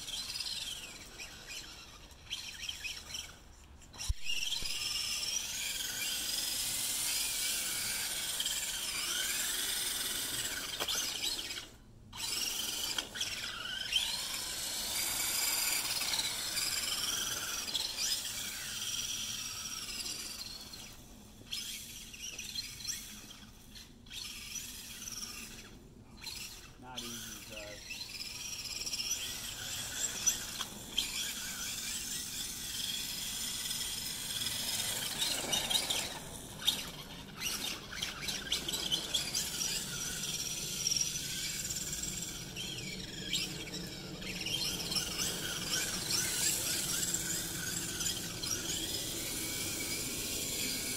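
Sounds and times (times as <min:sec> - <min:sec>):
toy truck motor whining: 0:00.0 - 0:50.9.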